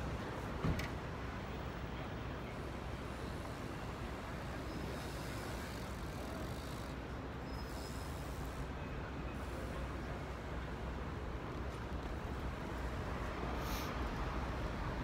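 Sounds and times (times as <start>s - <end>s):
rumble of passing cars: 0.0s - 15.0s.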